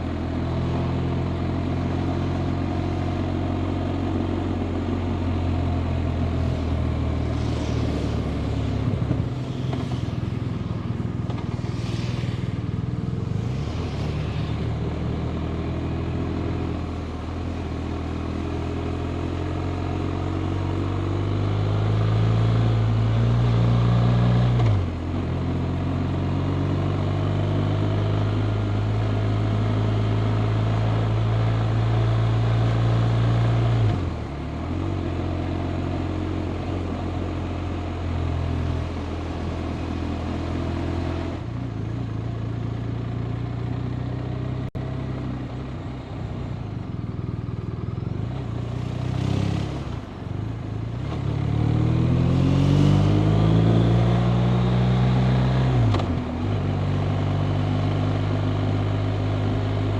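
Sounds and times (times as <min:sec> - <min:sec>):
motorcycle engine running: 0:00.0 - 0:23.2, 0:24.8 - 0:52.1.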